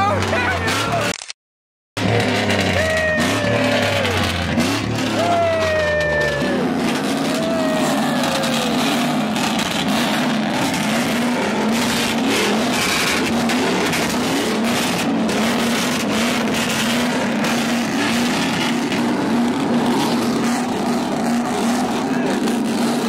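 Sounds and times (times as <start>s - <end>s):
truck engine revving: 0.0s - 1.1s, 2.0s - 23.0s.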